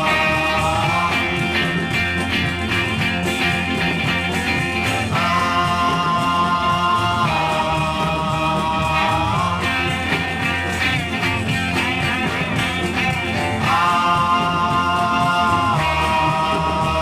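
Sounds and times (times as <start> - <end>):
bass guitar: 0.0 - 17.0
drums: 0.0 - 17.0
electric organ playing: 0.0 - 17.0.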